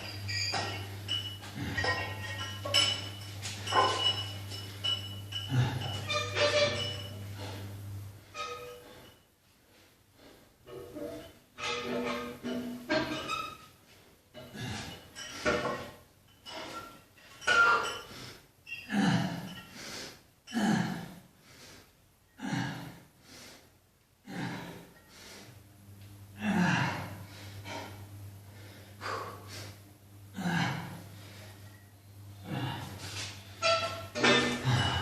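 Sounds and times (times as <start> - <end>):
low steady hum: 0.0 - 19.8, 24.0 - 35.0.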